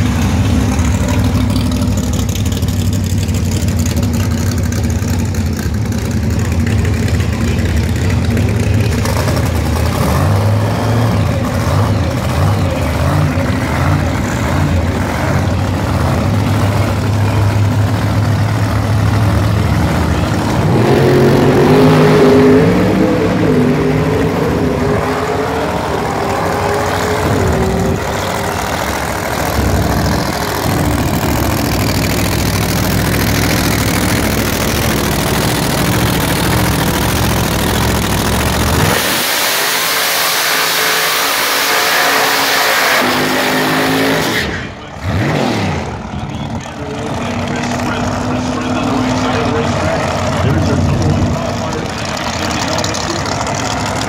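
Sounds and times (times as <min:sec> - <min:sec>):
drag car engine revving: 0:00.0 - 0:54.0.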